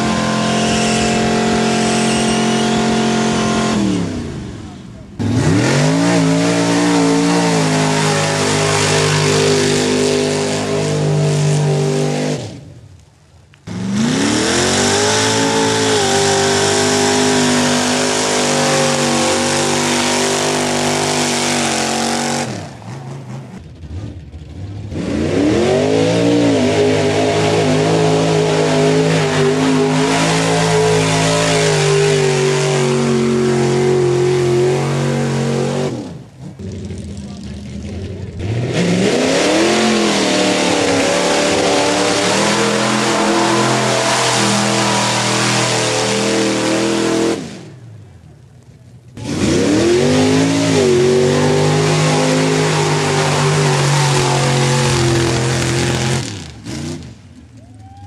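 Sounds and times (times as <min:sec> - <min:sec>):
truck engines revving hard: 0:00.0 - 0:12.8, 0:13.6 - 0:48.0, 0:49.1 - 0:57.8.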